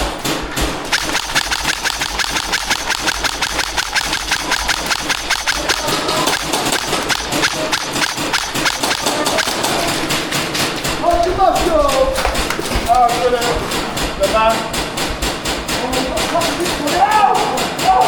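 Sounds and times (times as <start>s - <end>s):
airsoft guns firing: 0.0s - 18.0s.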